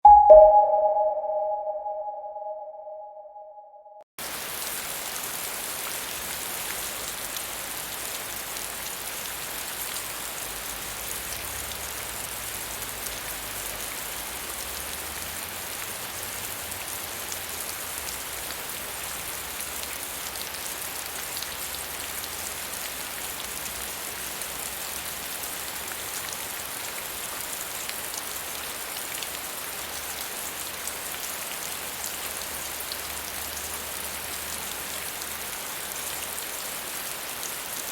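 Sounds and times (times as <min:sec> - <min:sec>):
rain hissing and pattering: 0:04.2 - 0:37.9.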